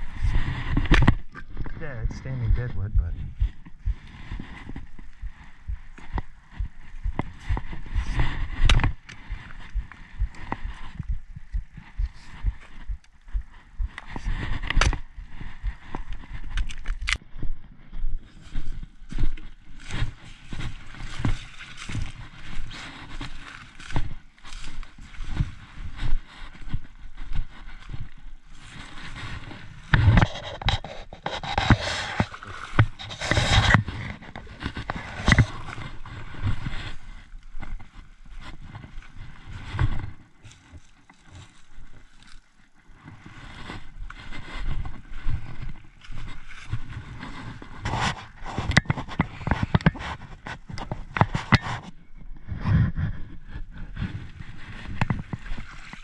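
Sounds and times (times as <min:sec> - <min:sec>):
jacket rustling against microphone: 0:00.0 - 0:17.2, 0:18.0 - 0:56.0
footsteps in undergrowth: 0:00.0 - 0:56.0.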